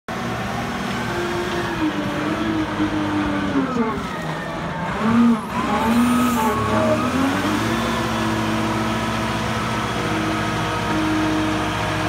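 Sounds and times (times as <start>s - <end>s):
forklift diesel engine running: 0.1s - 12.0s.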